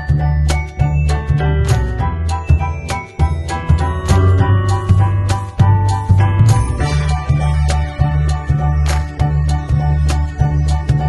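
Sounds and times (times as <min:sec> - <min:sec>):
upbeat music with pulsing bass: 0:00.0 - 0:11.0.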